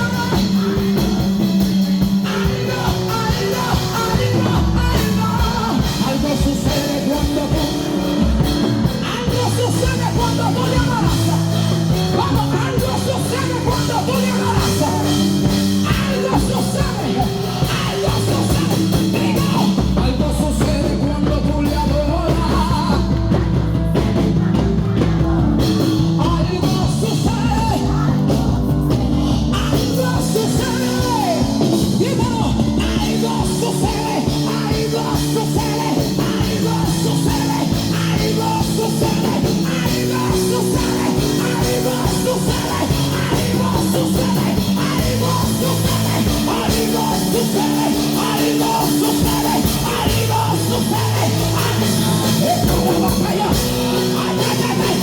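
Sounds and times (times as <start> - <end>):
live worship band music: 0.0 - 55.0
voices singing and shouting: 0.0 - 55.0.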